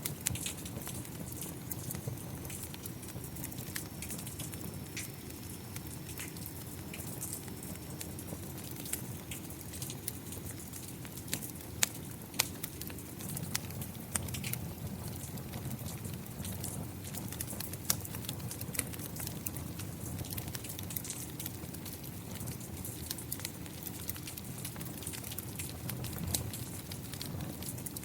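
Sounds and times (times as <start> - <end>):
rain: 0.0 - 28.0
wood fire crackling and popping: 0.0 - 28.0.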